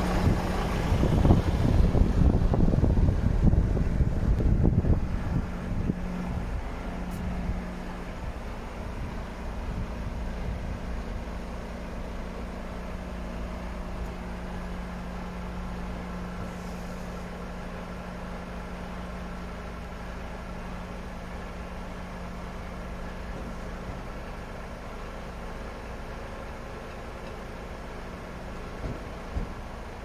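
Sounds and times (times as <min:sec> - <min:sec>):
diesel truck engine humming: 0:00.0 - 0:30.0.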